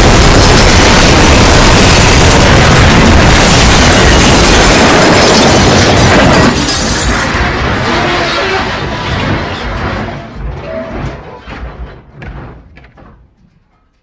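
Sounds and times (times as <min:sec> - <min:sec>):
train crash booming: 0:00.0 - 0:12.8.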